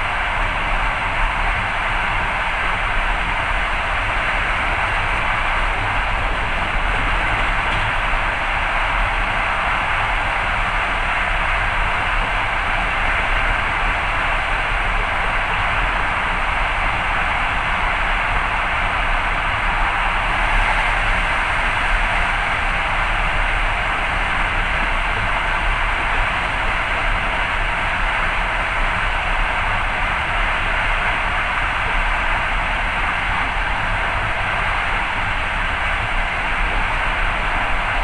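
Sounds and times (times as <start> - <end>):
train running noise: 0.0 - 38.0.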